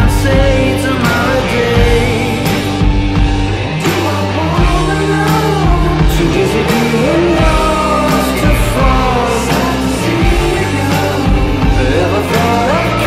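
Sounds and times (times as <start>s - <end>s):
rock song with sung vocals: 0.0s - 13.0s.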